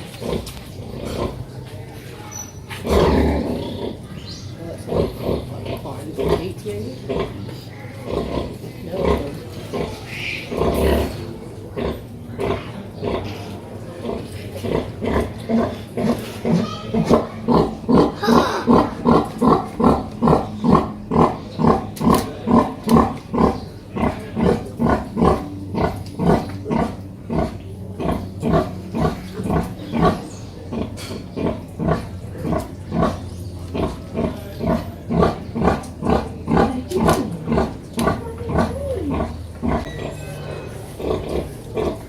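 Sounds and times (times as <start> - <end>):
pig grunting: 0.0 - 42.0.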